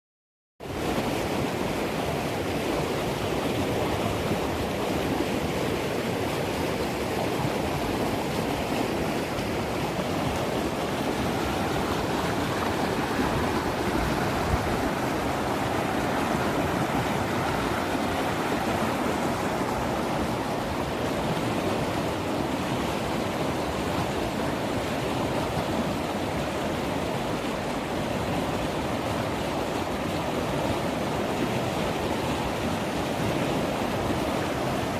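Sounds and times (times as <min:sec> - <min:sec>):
river rushing over rocks: 0:00.6 - 0:34.9.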